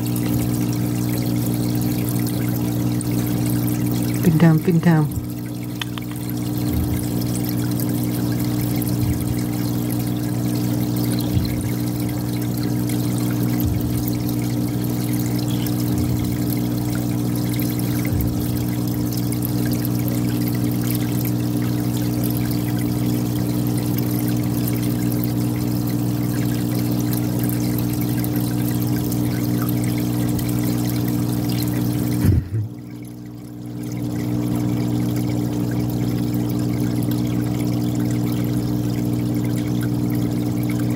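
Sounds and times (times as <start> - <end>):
aquarium pump humming: 0.0 - 40.9
water trickling and splashing: 0.0 - 40.9.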